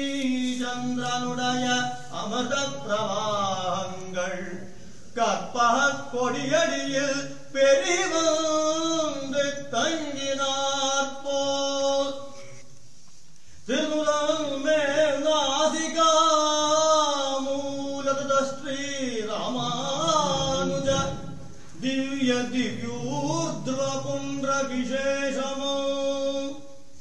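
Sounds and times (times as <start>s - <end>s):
person chanting verses: 0.0s - 12.7s, 13.7s - 26.8s.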